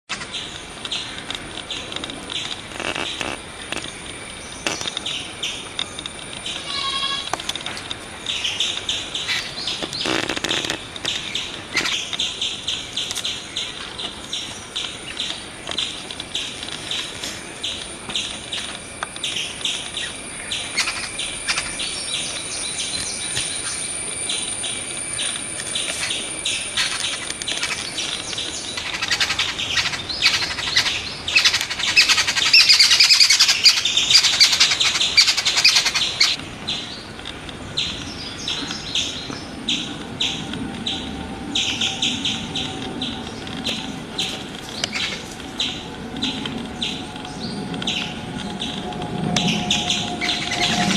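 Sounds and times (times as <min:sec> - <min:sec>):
birds chirping and twittering: 0:00.1 - 0:50.9
thin high whine: 0:01.6 - 0:32.4, 0:38.9 - 0:50.9.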